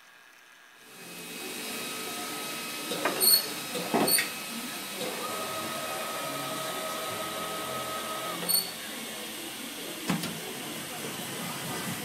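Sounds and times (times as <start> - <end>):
stone-cutting machine hissing: 0.9 - 12.0.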